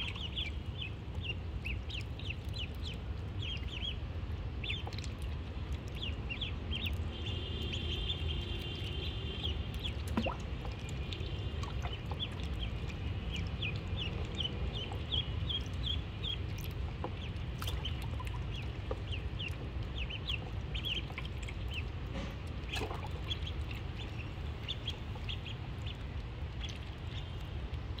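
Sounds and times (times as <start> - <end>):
ducklings peeping: 0.0 - 28.0
steady low rumble: 0.0 - 28.0.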